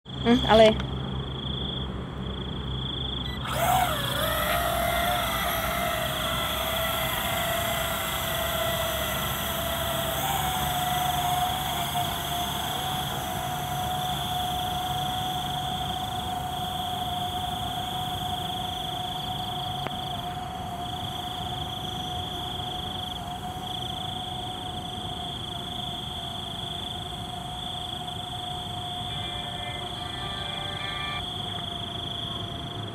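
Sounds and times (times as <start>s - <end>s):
drone propellers whining: 3.3s - 32.9s.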